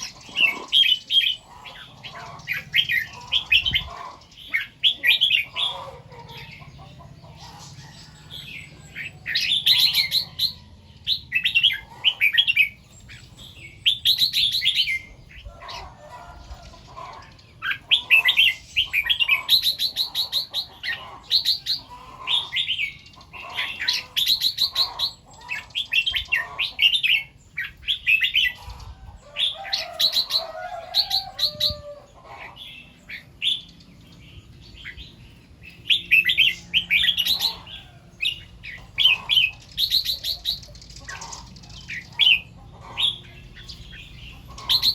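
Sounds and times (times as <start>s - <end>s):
bird singing warbling phrases: 0.0s - 44.9s.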